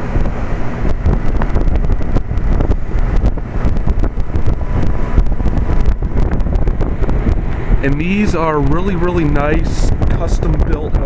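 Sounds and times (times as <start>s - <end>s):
air buffeting microphone: 0.0s - 11.0s
heat pump outdoor unit running: 0.0s - 11.0s.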